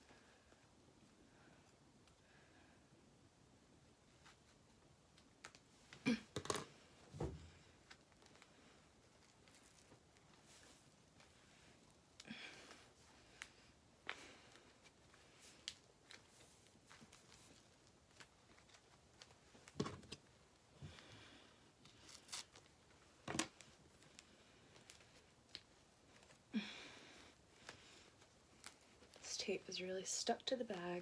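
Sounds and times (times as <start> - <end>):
soft cloth rustles: 3.8 - 6.0, 6.8 - 31.0.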